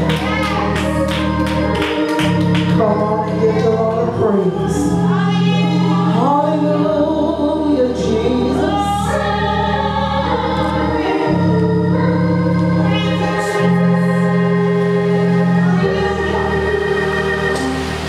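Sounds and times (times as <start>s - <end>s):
gospel organ chords: 0.0s - 18.0s
person singing: 0.0s - 18.0s.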